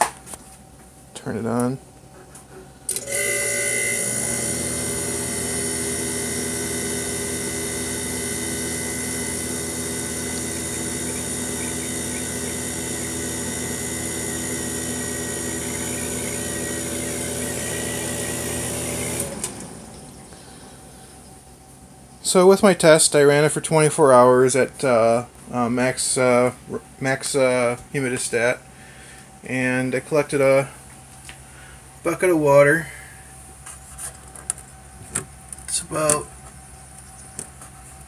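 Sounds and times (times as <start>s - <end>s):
dehumidifier humming: 0.0s - 38.0s.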